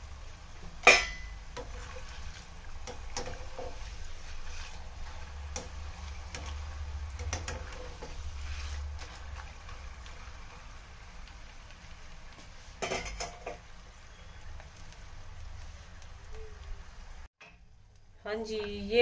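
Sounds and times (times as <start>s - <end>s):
slices sizzling in hot oil: 0.0s - 17.3s.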